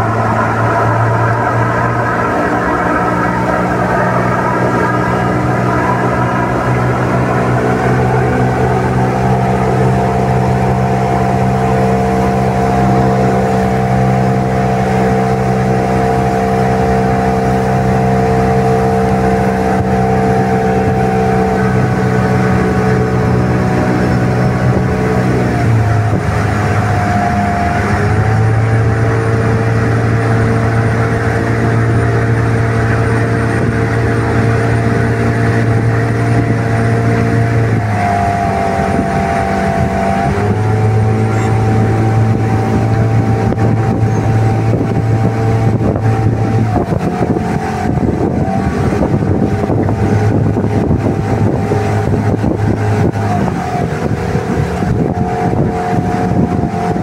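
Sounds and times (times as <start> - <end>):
boat engine hum: 0.0 - 57.0
water and wind rushing: 0.0 - 57.0.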